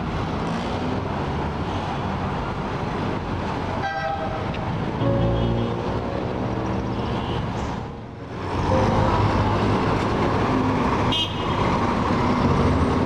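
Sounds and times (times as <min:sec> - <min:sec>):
street traffic engines: 0:00.0 - 0:13.0.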